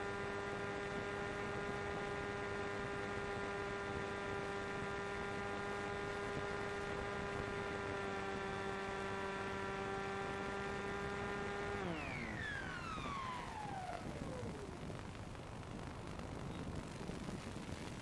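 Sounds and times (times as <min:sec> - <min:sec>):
model plane motor hum: 0:00.0 - 0:17.4.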